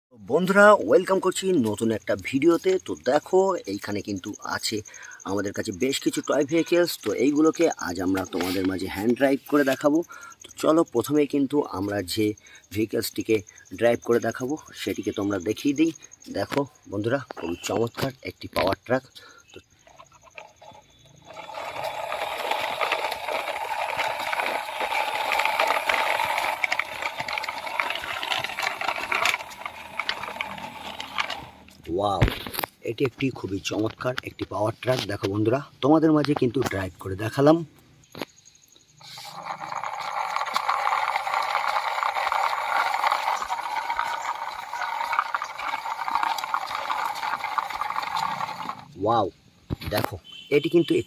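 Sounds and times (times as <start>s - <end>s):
plastic toy wheels rattling on concrete: 0.4s - 16.6s, 17.2s - 35.6s, 39.0s - 49.0s, 49.8s - 51.0s.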